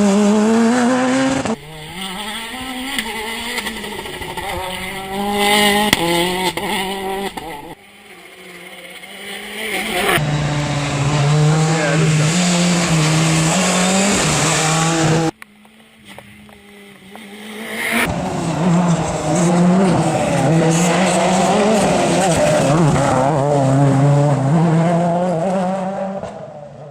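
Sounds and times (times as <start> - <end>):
rally car engine revving: 0.0 - 26.9.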